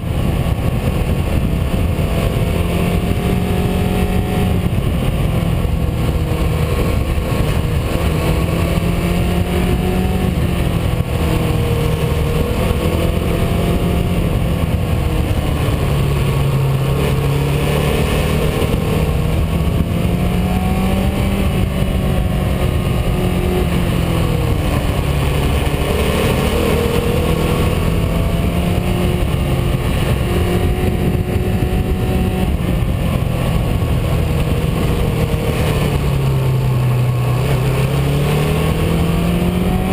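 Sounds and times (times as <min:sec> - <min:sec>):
car engine while driving: 0:00.0 - 0:39.9
road noise: 0:00.0 - 0:39.9.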